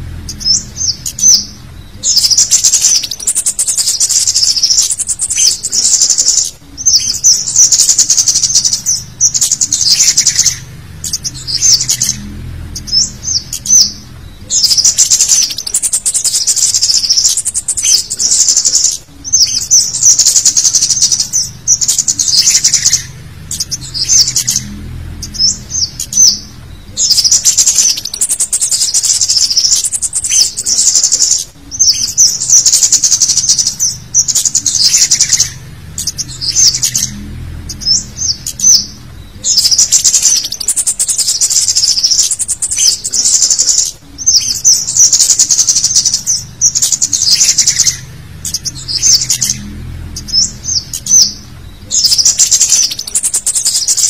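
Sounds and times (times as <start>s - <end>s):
high-pitched bird chirps: 0.0s - 54.0s.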